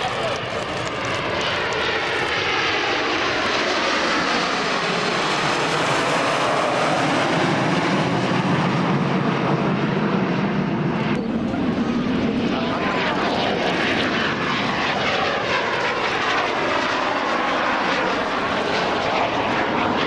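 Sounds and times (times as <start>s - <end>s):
jet aircraft flying over: 0.0s - 20.0s.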